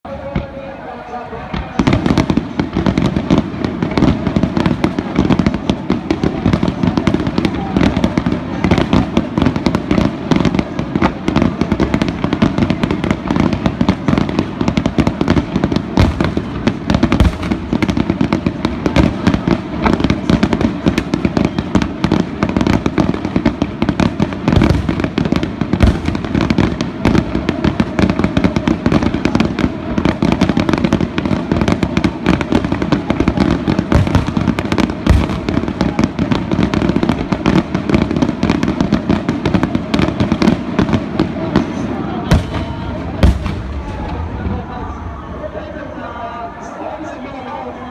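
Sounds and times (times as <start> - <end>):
fireworks booming: 0.1 - 47.7.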